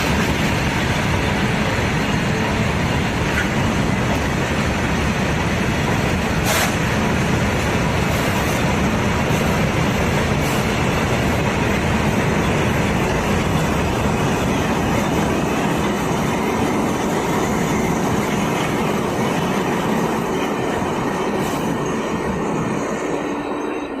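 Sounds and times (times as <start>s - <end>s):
freight train wheels rattling: 0.0s - 24.0s.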